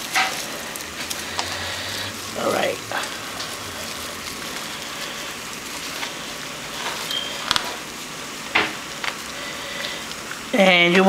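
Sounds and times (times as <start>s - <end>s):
cling wrap crinkling: 0.0s - 11.0s
steady hiss: 0.0s - 11.0s.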